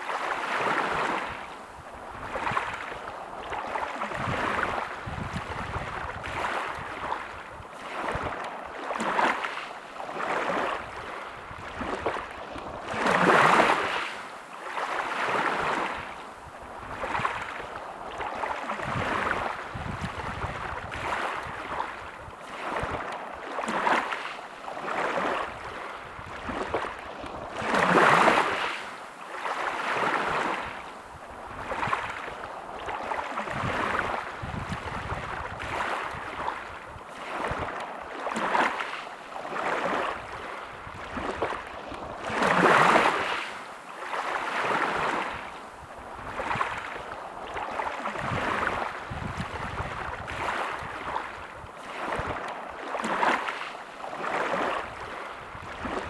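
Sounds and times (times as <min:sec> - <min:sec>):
big waves breaking: 0:00.0 - 0:56.0
sea waves washing onto beach: 0:00.0 - 0:56.0.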